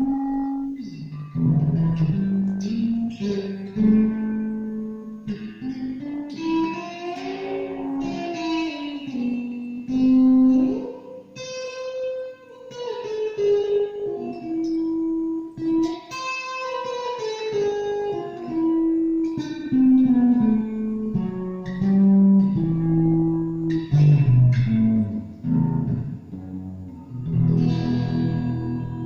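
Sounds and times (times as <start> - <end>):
electric guitar sliding notes: 0.0 - 29.0.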